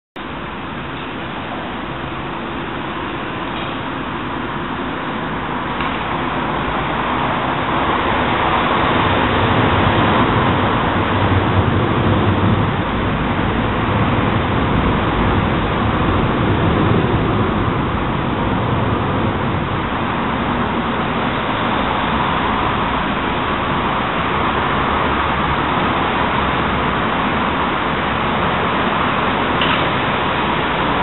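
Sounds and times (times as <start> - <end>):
road traffic rumble: 0.2 - 31.0.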